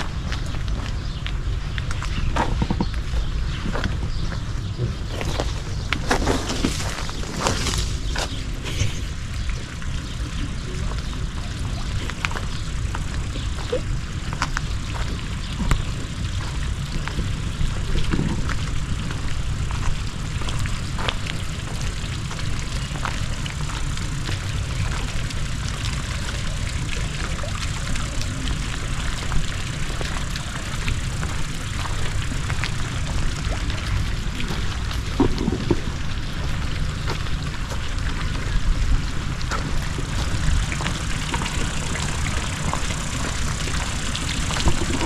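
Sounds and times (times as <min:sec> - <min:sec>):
fountain water trickling: 0:00.0 - 0:45.0
wind buffeting microphone: 0:00.0 - 0:45.0.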